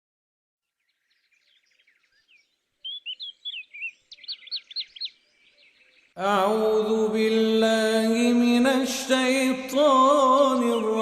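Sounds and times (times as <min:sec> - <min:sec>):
songbirds singing: 0:00.6 - 0:11.0.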